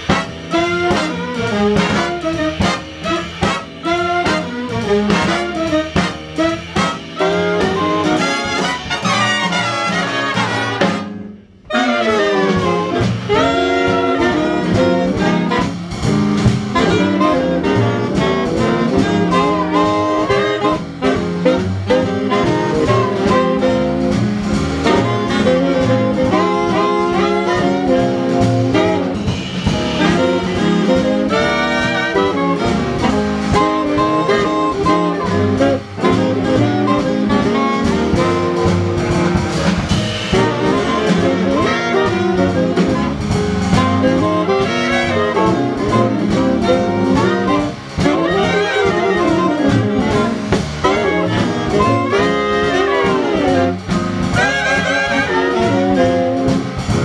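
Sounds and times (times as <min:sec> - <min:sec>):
jazz big band playing: 0:00.0 - 0:57.0.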